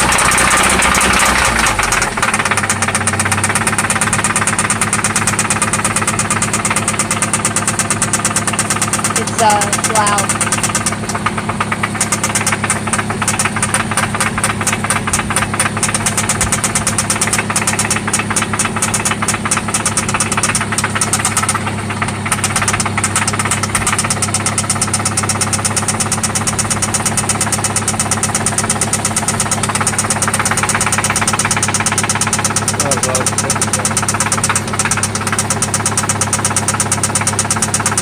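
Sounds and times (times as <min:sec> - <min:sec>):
engine running with fast knock: 0:00.0 - 0:38.0.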